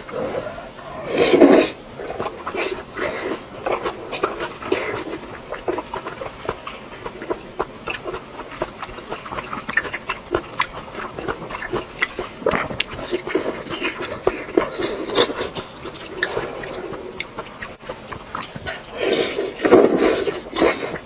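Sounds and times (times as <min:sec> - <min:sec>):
chewing and mouth sounds: 0:00.0 - 0:21.0.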